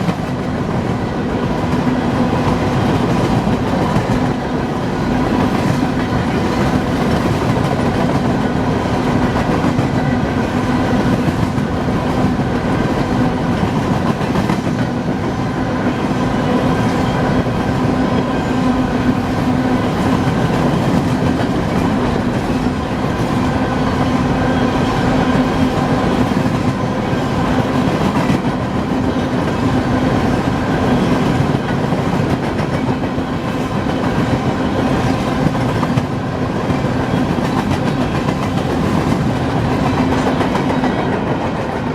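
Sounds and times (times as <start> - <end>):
train wheels rumbling and clicking: 0.0 - 41.9.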